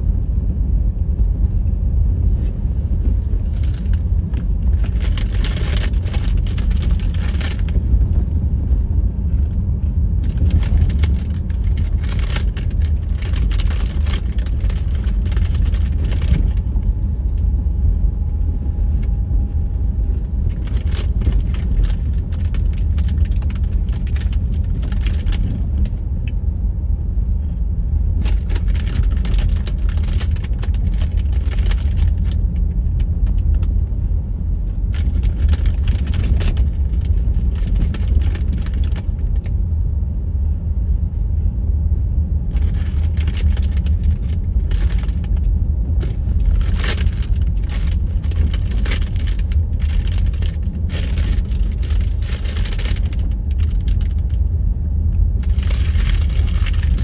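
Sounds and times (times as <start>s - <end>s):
engine and tyres rumble: 0.0s - 57.0s.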